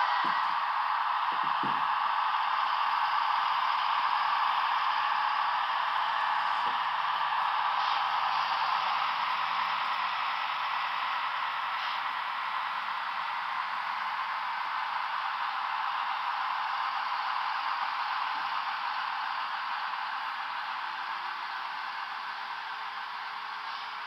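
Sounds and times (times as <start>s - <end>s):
model train diesel engine sound: 0.0s - 24.0s.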